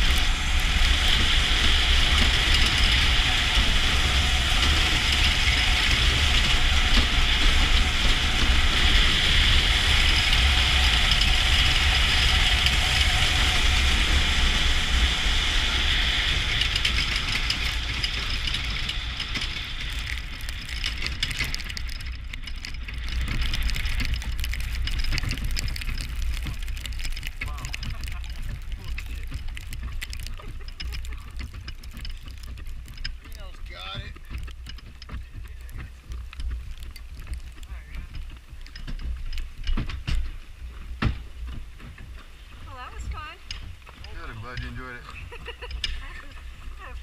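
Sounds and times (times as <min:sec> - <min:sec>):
bobsled runners rushing over ice: 0:00.0 - 0:47.0.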